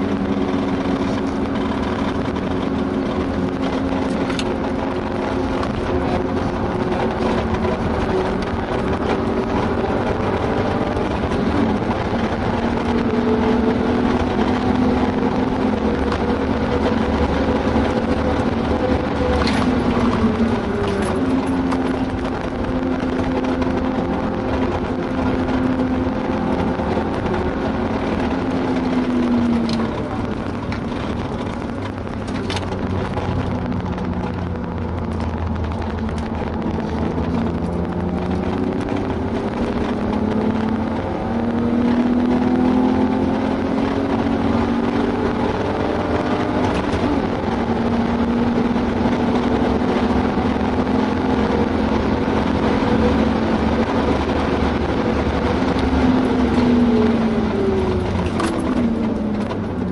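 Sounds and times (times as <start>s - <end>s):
car engine revving through gears: 0.0s - 59.9s
tyre and wind noise: 0.0s - 59.9s.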